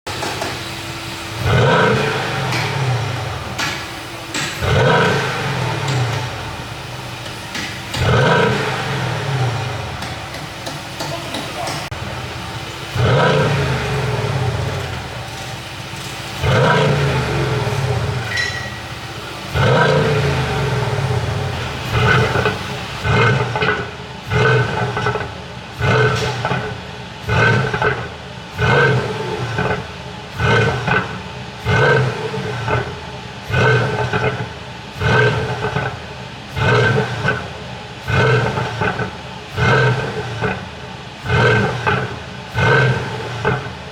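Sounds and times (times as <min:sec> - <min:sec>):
car engine revving: 0:00.0 - 0:43.9
exhaust popping: 0:00.0 - 0:43.9.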